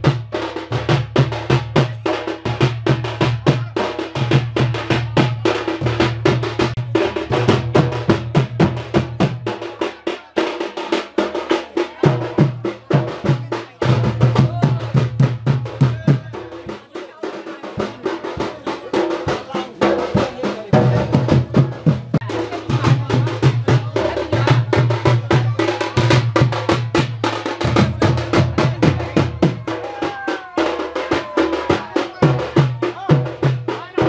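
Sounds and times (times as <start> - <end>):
dhol drum strokes: 0.0 - 34.0
drum band playing: 0.0 - 34.0.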